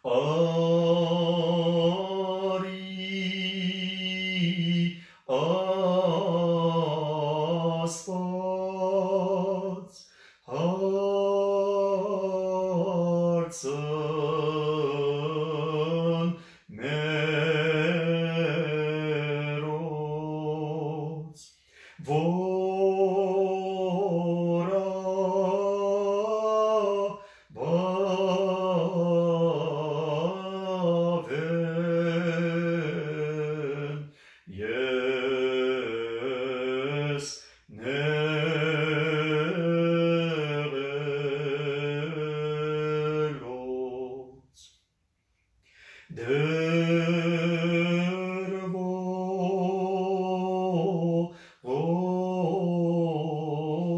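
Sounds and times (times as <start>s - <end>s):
man chanting a hymn: 0.0s - 44.5s, 45.8s - 53.9s.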